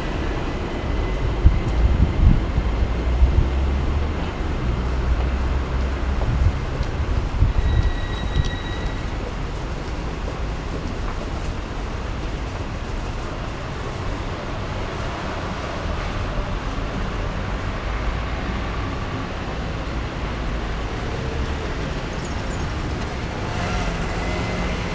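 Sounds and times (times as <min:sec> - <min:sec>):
distant traffic rumble: 0:00.0 - 0:24.9.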